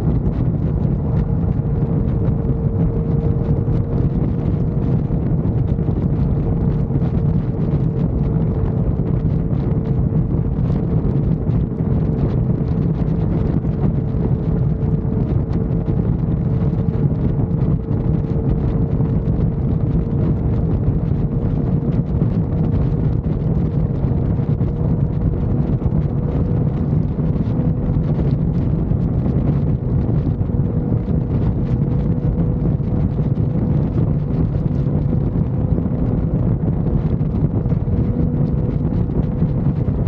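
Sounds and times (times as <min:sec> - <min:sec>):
motorcycle engine drone: 0:00.0 - 0:40.0
wind rushing over microphone: 0:00.0 - 0:40.0.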